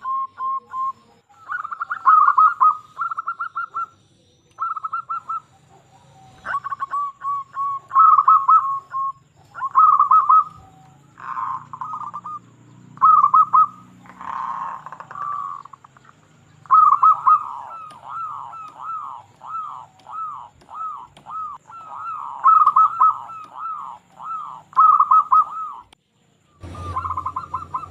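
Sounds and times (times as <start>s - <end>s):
dove cooing: 0.0s - 4.0s, 4.6s - 27.9s.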